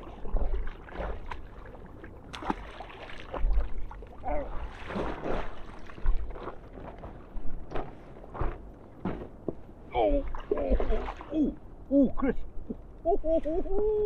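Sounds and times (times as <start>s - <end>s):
water lapping against a boat: 0.0s - 14.0s.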